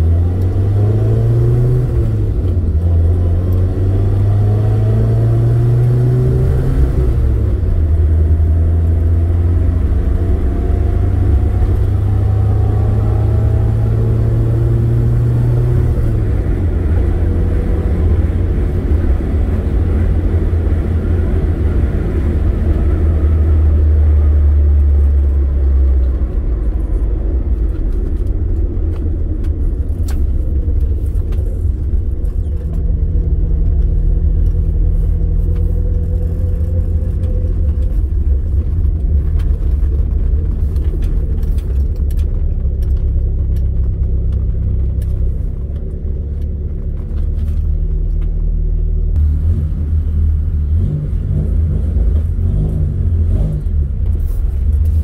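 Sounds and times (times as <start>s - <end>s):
car engine: 0.0s - 55.0s
road noise: 0.0s - 55.0s.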